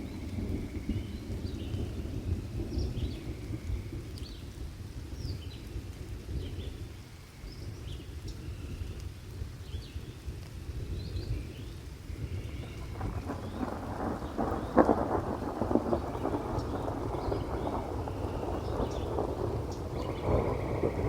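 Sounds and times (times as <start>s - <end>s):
low rumble of thunder: 0.0s - 21.0s
rain: 0.0s - 21.0s.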